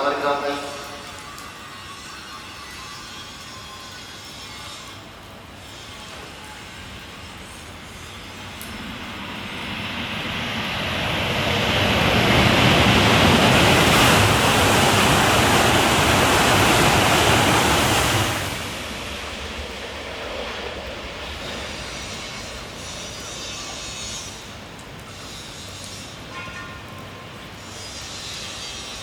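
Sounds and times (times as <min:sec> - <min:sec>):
high-speed train passing: 0:00.0 - 0:29.0.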